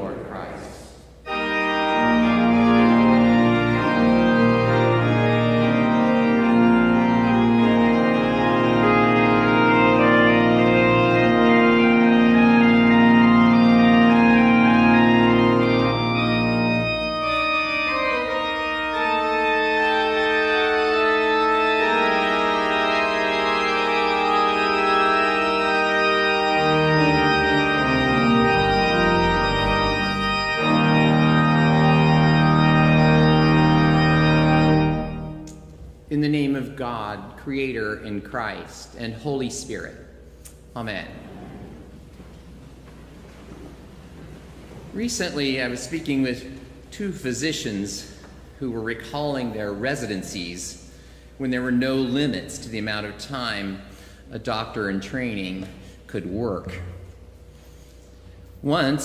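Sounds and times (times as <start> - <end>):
church organ chords: 0.0 - 59.0.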